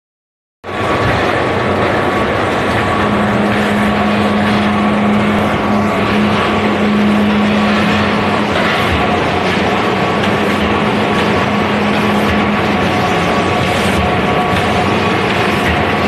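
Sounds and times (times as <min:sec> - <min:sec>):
thin high machine whine: 0:00.6 - 0:16.0
packing machinery din: 0:00.7 - 0:16.0.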